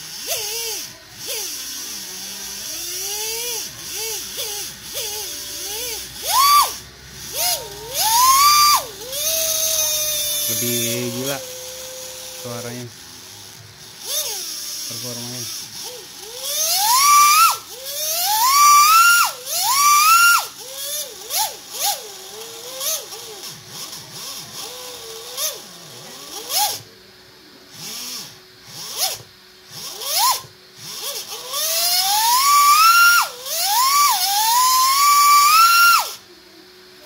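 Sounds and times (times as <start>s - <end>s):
electric motor whine revving: 0.0s - 27.0s, 27.7s - 36.3s.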